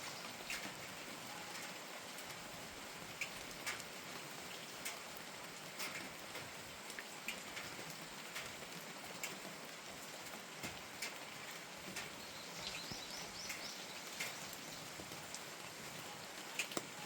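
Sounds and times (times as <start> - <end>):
steady rain with drips: 0.0 - 17.0.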